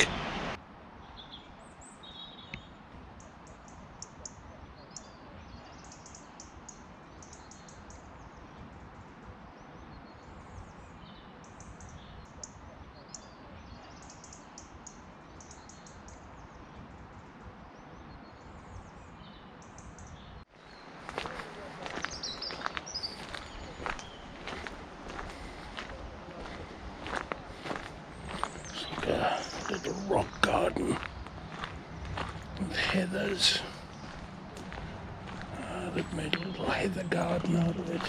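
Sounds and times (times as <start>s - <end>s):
outdoor background hiss: 0.0s - 38.0s
songbirds chirping and singing: 0.0s - 38.0s.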